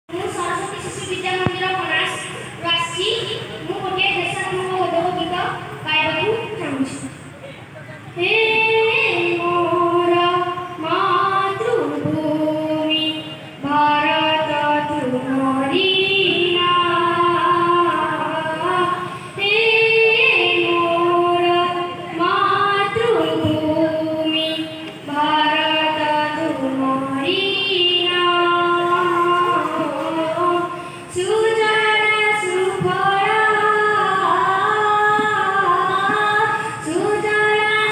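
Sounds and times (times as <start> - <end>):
child singing into a microphone: 0.1 - 7.2, 8.1 - 37.9.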